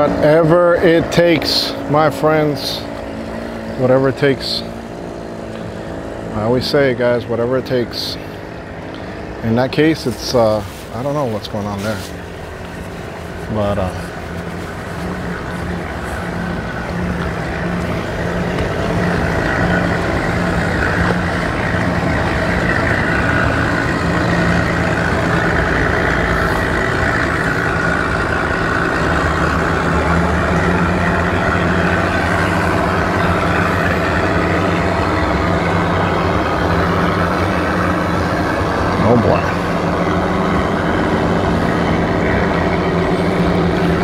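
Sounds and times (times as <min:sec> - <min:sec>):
outboard motors humming: 0:00.0 - 0:44.0.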